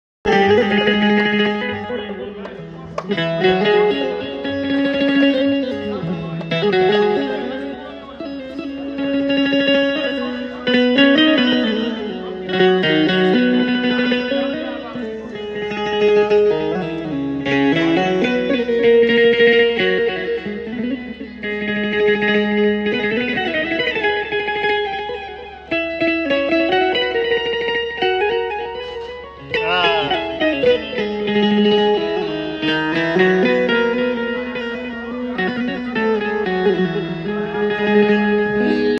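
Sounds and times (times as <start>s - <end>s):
keyed string instrument melody: 0.3s - 38.9s.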